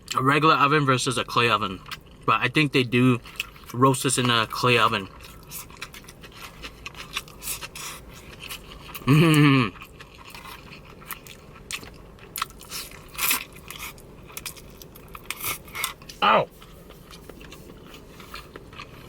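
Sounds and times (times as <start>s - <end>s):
person chewing and biting food: 3.2s - 19.0s.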